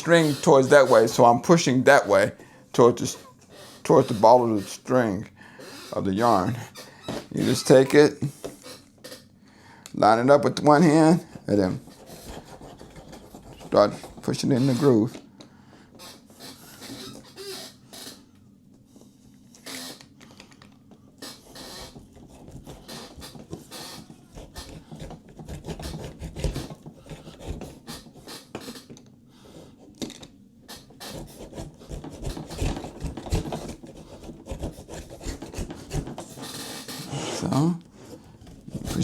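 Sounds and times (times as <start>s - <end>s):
spline roller scratching: 0.0s - 8.8s, 10.7s - 15.1s, 16.0s - 18.2s, 21.2s - 28.9s, 30.7s - 39.0s.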